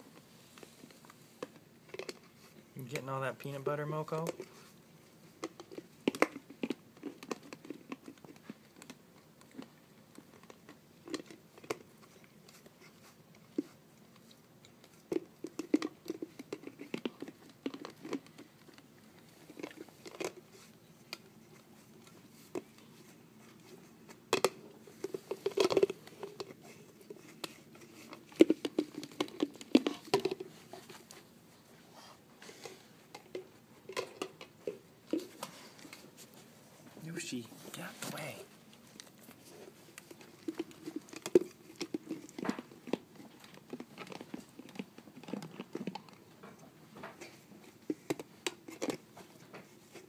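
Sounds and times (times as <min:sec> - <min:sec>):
dog licking and chewing: 0:00.0 - 0:50.0
teeth and claws clicking on plastic: 0:01.0 - 0:02.4, 0:04.2 - 0:31.2, 0:32.4 - 0:36.0, 0:38.7 - 0:50.0.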